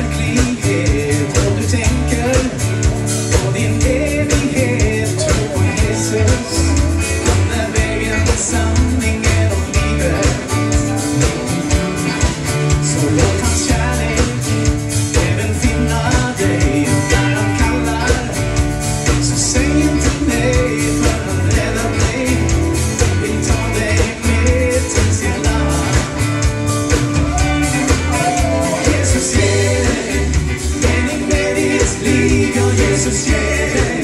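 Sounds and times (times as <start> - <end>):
country-rock band playing: 0.0 - 34.0.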